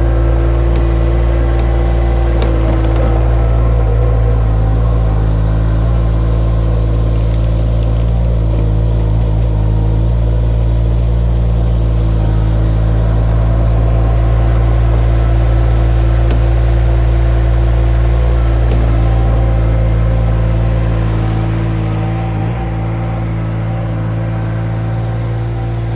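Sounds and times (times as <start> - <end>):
engine droning: 0.0 - 25.9.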